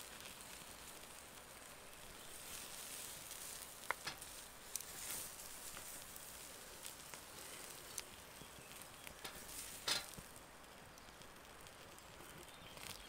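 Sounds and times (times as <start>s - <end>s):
sausages sizzling: 0.0s - 13.0s.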